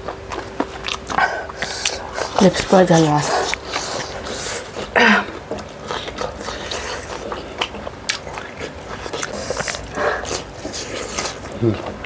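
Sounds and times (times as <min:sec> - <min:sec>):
people chewing fried chicken: 0:00.0 - 0:12.0.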